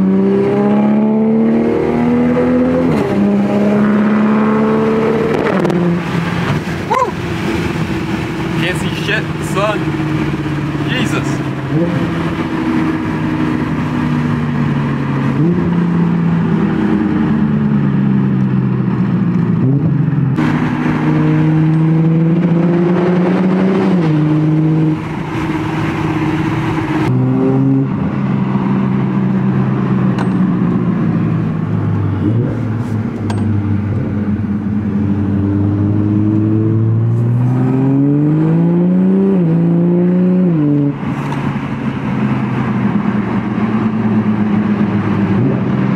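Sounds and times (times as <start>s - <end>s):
car exhaust accelerating through gears: 0.0s - 45.9s.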